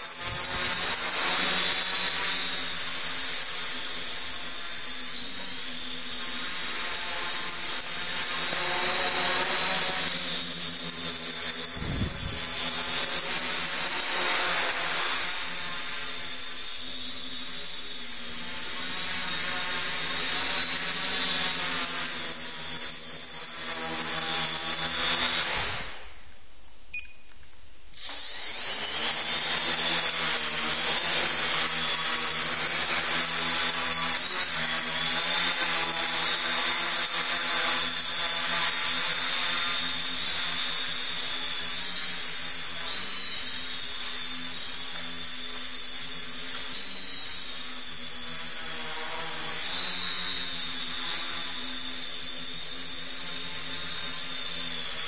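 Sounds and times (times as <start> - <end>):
motor humming with high whine: 0.0 - 55.0.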